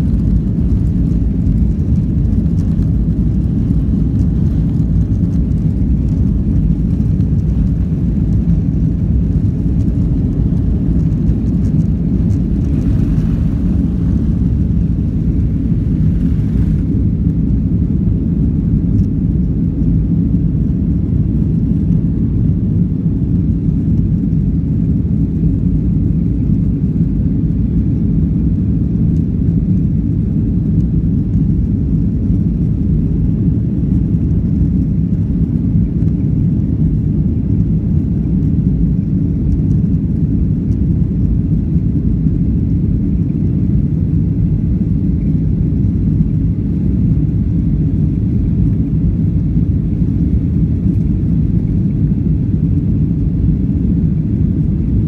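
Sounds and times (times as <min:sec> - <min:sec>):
jet engine low rumble in cabin: 0:00.0 - 0:55.0.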